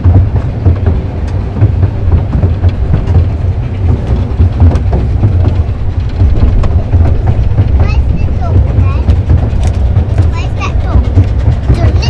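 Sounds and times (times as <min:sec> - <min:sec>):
train rumbling: 0:00.0 - 0:12.0
wheels clicking on track: 0:00.0 - 0:12.0.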